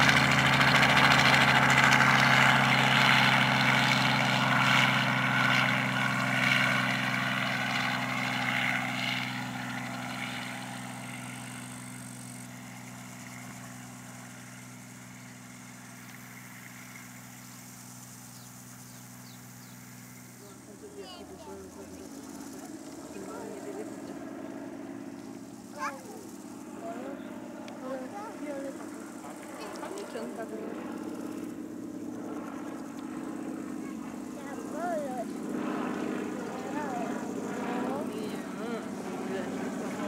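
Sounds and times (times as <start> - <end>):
helicopter flying past: 0.0 - 40.0.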